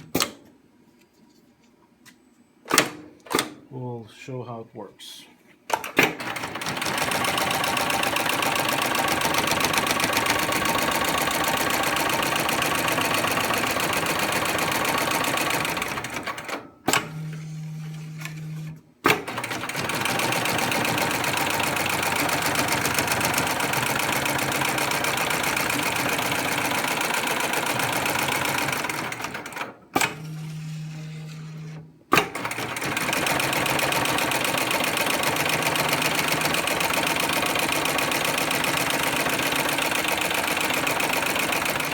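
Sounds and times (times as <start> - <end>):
sewing machine stitching: 5.8 - 17.1, 19.1 - 41.9.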